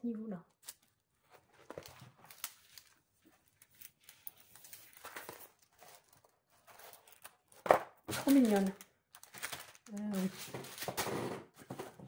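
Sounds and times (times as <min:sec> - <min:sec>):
plastic packaging rustling: 0:00.6 - 0:12.0.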